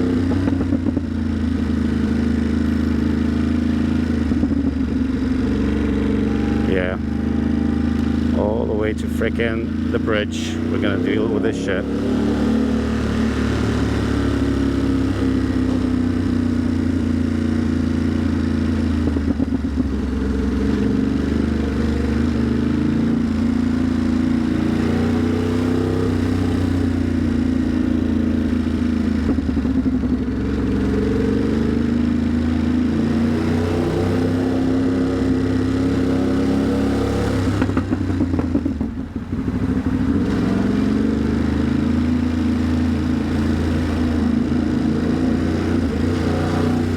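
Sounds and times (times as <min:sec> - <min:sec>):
motorcycle engine at low revs: 0:00.0 - 0:46.9.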